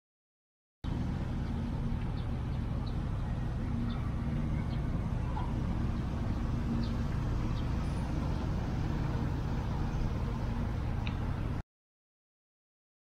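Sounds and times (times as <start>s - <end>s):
car engine idling: 0.8s - 11.6s.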